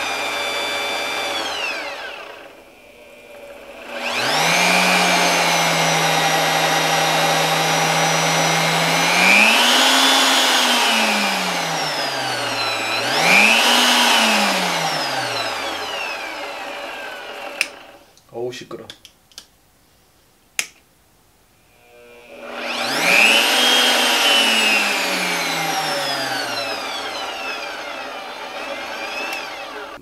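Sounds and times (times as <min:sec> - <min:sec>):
drill press motor whining: 0:00.0 - 0:18.0, 0:21.8 - 0:30.0.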